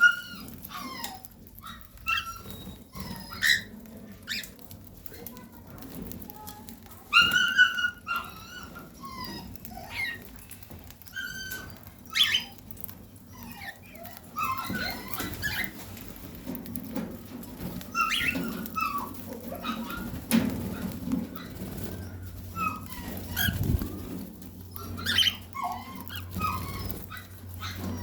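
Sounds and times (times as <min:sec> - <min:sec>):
cockatiel chirping and squawking: 0:00.0 - 0:05.4, 0:06.9 - 0:16.1, 0:17.5 - 0:28.0.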